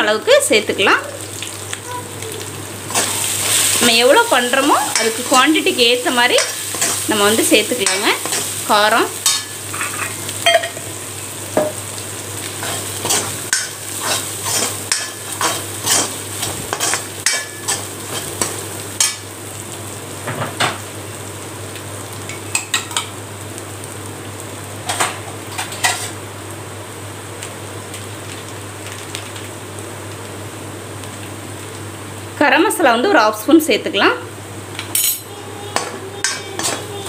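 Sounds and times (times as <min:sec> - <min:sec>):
oil sizzling: 0:00.0 - 0:37.0.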